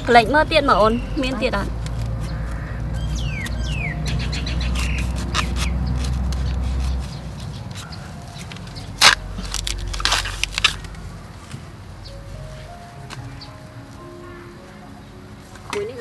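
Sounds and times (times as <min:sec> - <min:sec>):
bird chirping: 0:00.0 - 0:10.0, 0:10.6 - 0:16.0.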